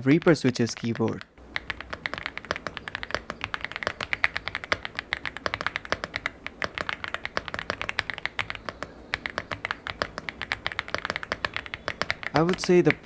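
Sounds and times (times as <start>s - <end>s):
mechanical keyboard typing: 0.0s - 13.0s.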